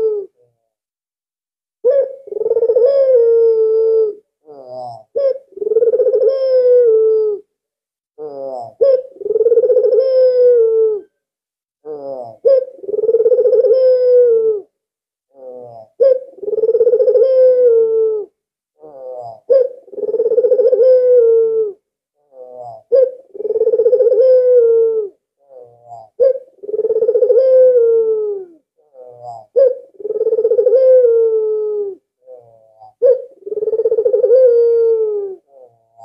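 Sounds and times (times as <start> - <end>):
dove cooing: 0.0 - 0.4, 1.8 - 7.5, 8.2 - 11.1, 11.9 - 14.7, 15.3 - 36.0.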